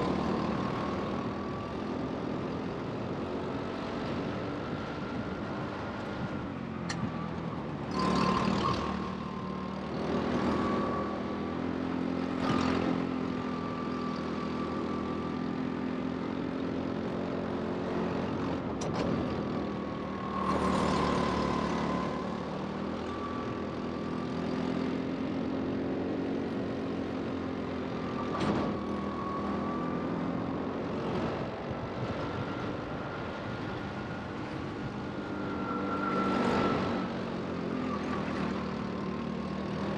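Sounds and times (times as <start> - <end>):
go-kart engine: 0.0 - 39.9.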